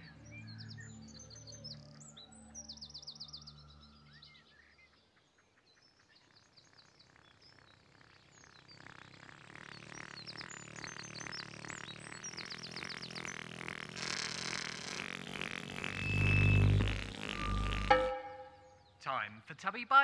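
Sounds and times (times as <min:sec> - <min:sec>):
songbirds chirping: 0:00.0 - 0:19.6.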